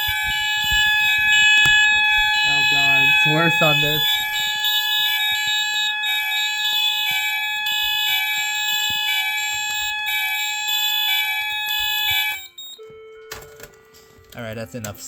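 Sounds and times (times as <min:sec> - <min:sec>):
fire alarm sounders: 0:00.0 - 0:14.5.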